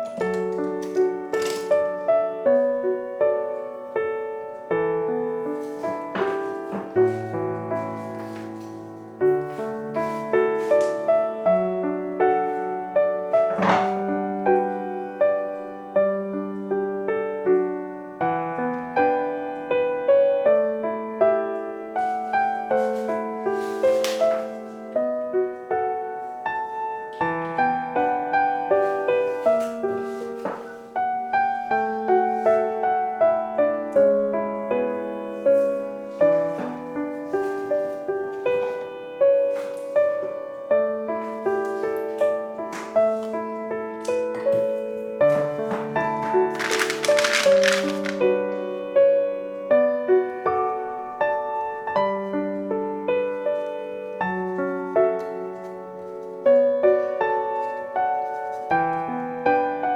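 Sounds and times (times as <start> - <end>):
soft piano music: 0.0 - 59.9.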